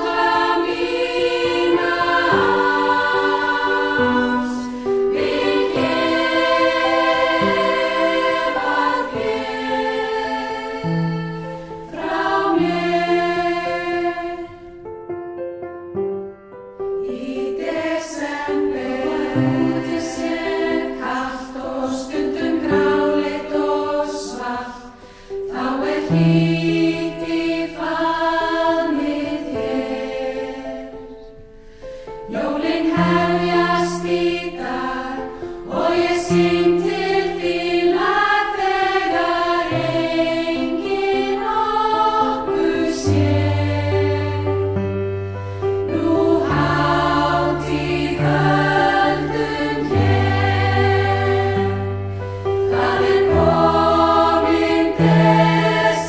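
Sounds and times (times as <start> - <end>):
women's choir singing: 0.0 - 14.9, 17.0 - 31.3, 32.2 - 56.0
piano accompaniment: 0.0 - 56.0.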